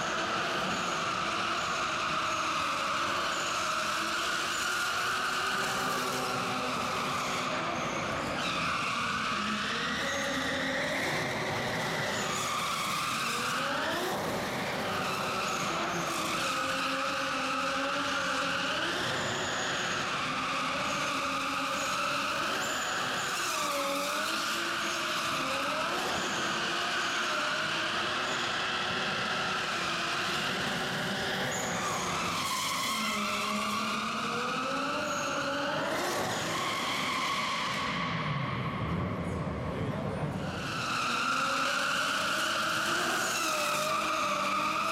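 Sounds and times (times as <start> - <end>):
tyres skidding and squealing: 0.0 - 44.9.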